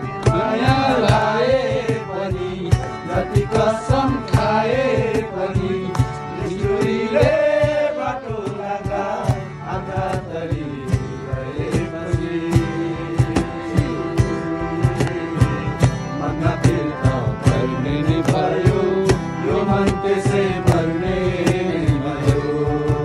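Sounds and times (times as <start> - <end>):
harmonium: 0.0 - 23.0
men singing together: 0.0 - 23.0
slapped cajon strikes: 0.0 - 23.0
strummed acoustic guitar: 0.0 - 23.0.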